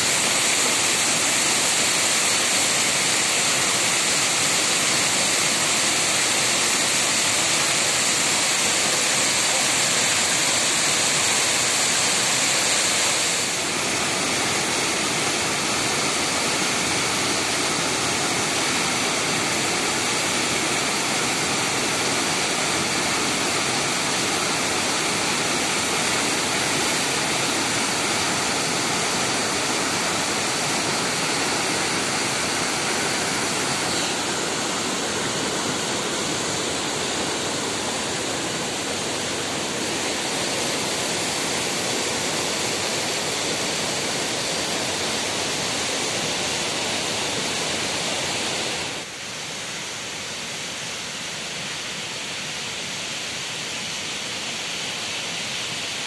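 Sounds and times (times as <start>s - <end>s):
waterfall rushing over rocks: 0.0s - 56.0s.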